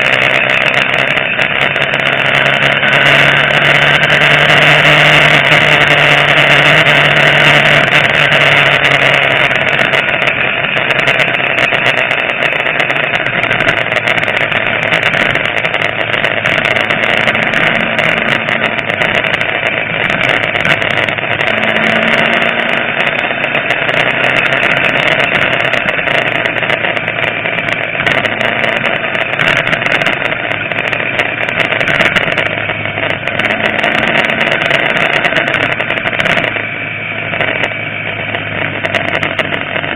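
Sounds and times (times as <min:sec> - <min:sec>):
motorcycle engine shifting gears: 0:00.0 - 0:39.9
wind noise on microphone: 0:00.0 - 0:39.9.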